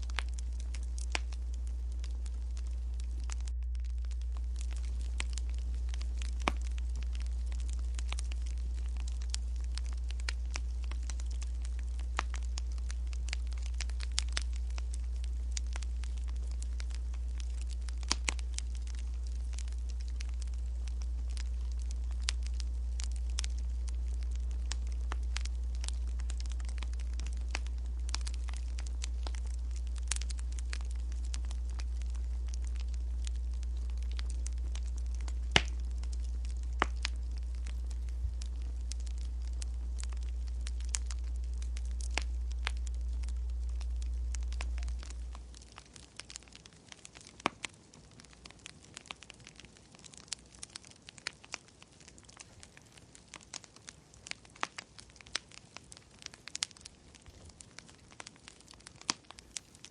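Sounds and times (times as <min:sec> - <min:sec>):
steady low hum: 0:00.0 - 0:59.9
wood fire crackling: 0:00.0 - 0:59.9.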